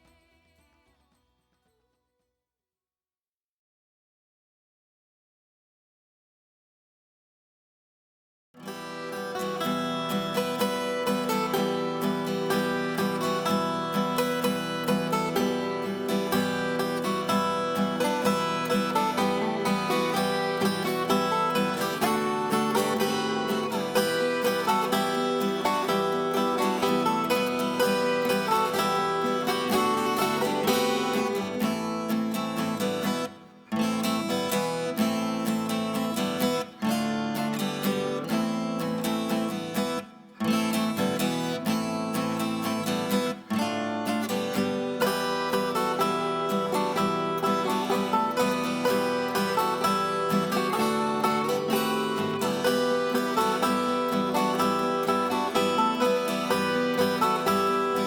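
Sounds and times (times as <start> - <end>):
strummed acoustic guitar music: 8.6 - 58.0.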